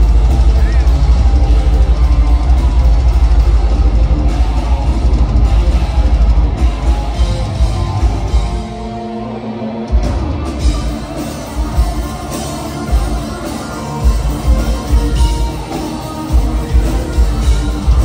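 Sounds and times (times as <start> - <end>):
fast drums: 0.0 - 9.0, 9.8 - 18.0
distorted electric guitars: 0.0 - 18.0.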